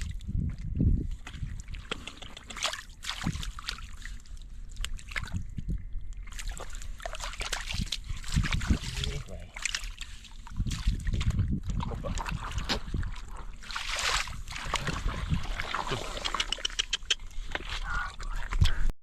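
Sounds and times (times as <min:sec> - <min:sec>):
water splashing and sloshing: 0:00.0 - 0:18.9.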